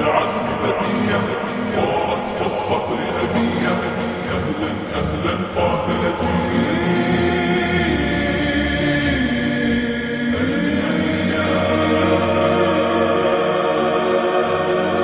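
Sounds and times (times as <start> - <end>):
choir singing with reverb: 0.0 - 15.0.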